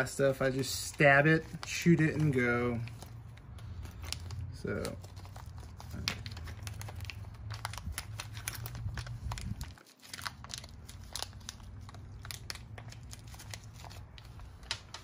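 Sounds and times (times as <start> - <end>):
plastic bag crinkling: 0.1 - 15.0.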